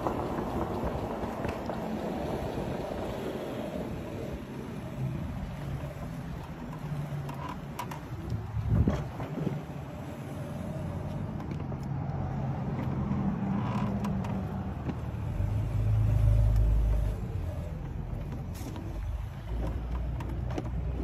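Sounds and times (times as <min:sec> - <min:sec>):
electric scooter hum: 0:00.0 - 0:21.0.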